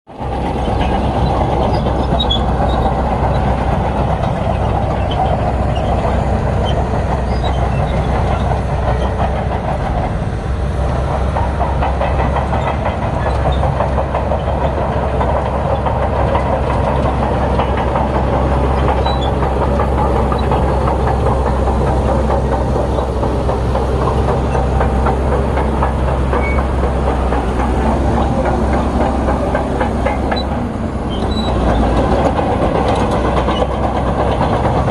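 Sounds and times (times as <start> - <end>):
diesel engine under load: 0.1 - 34.9
steel tracks clanking: 0.1 - 34.9.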